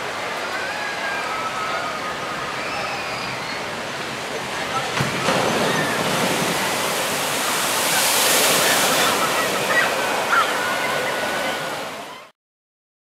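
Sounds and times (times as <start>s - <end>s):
boat splashing into water: 1.4s - 12.1s.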